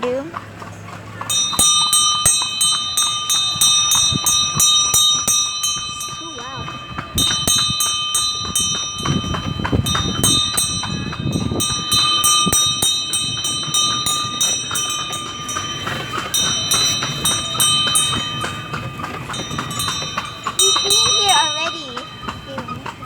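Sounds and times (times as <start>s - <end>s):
bell ringing fast: 1.3s - 23.0s.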